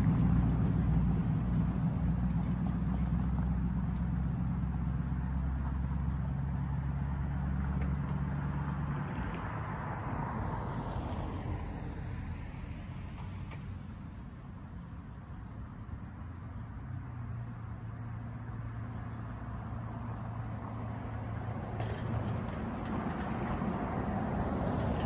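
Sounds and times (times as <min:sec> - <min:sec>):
car tyres passing: 0:00.0 - 0:25.0
low engine drone: 0:00.0 - 0:25.0.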